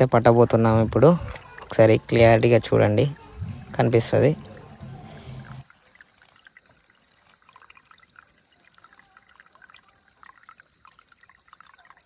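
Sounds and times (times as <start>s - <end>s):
shallow water trickling: 0.0s - 12.0s
water drips and plops: 0.0s - 12.0s.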